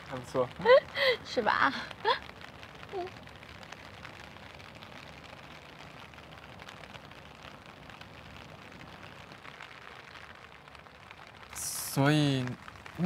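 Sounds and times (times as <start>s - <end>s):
raindrops pattering on umbrellas: 0.0s - 13.0s
steady rain falling: 0.0s - 13.0s.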